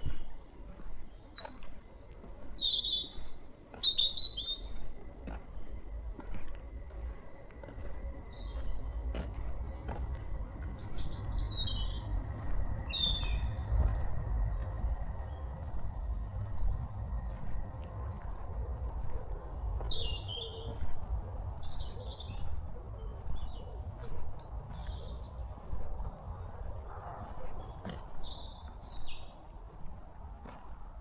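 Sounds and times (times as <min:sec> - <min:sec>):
songbirds chirping: 0:00.0 - 0:31.0
steady low rumble: 0:00.0 - 0:31.0.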